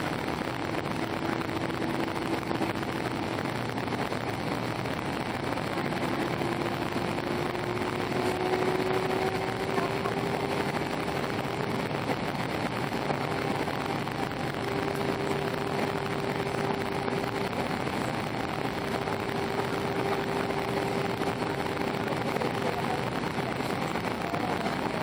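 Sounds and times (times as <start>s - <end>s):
airflow rushing: 0.0s - 25.0s
jet engine hum rising in pitch: 0.0s - 25.0s.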